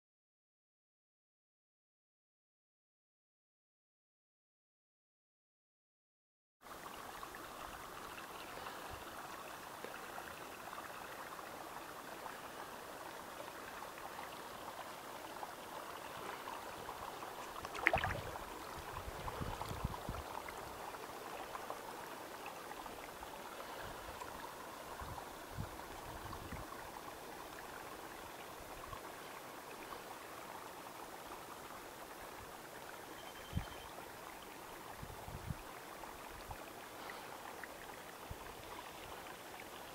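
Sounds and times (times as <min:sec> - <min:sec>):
water trickling: 0:06.7 - 0:39.9.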